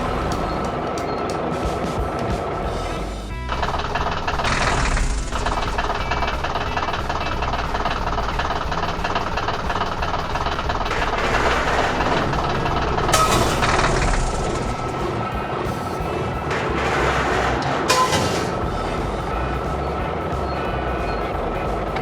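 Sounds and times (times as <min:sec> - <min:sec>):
heavy vehicle rumbling and rattling: 0:00.0 - 0:22.0.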